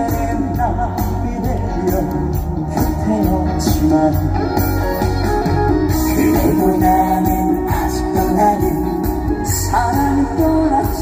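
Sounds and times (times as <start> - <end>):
man singing: 0.0 - 5.1, 5.9 - 11.0
live band playing pop song: 0.0 - 11.0.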